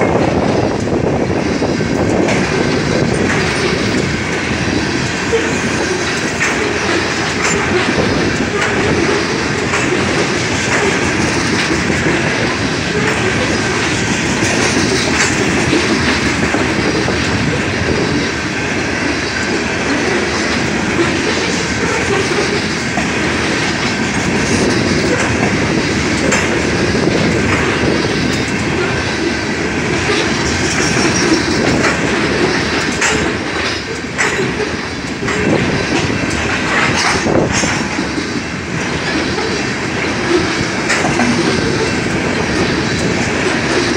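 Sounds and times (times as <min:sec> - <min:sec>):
steel wheels rumbling on rail: 0:00.0 - 0:43.9
wheels clattering over rail joints: 0:01.9 - 0:43.9.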